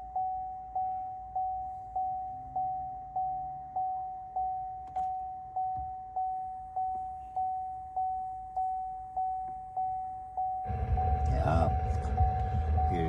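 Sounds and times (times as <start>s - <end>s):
car warning chime dinging: 0.0s - 13.0s.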